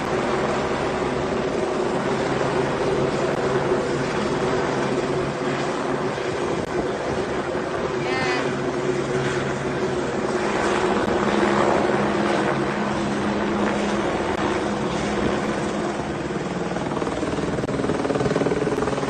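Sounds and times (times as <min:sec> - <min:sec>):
helicopter drone: 0:00.0 - 0:19.0.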